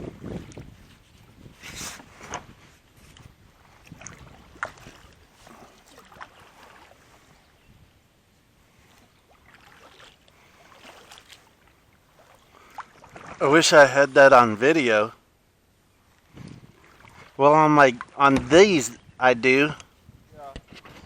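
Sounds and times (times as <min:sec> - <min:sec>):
water splashing around boat: 0:00.0 - 0:15.1, 0:16.0 - 0:19.2.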